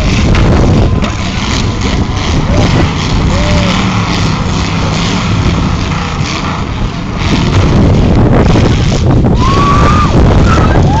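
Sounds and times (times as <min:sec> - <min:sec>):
car engines running rough: 0:00.0 - 0:11.0.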